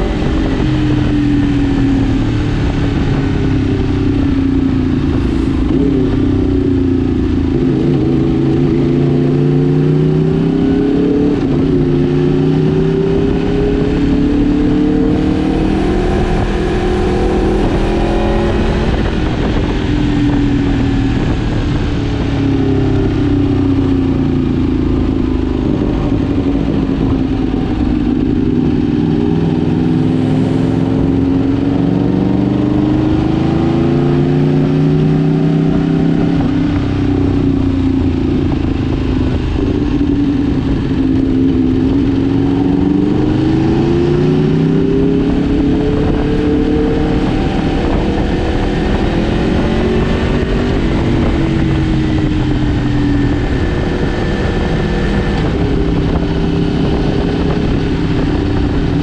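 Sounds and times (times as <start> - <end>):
low rumble: 0.0 - 59.0
motorcycle engine revving: 0.0 - 59.0.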